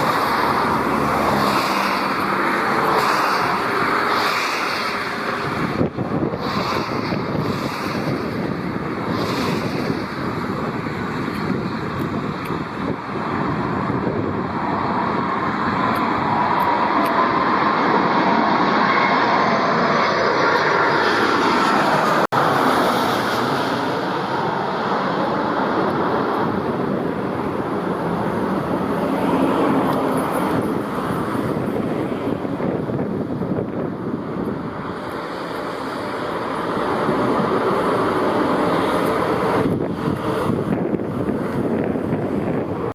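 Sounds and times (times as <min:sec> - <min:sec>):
jet airliner engine roar passing: 0:00.0 - 0:42.9.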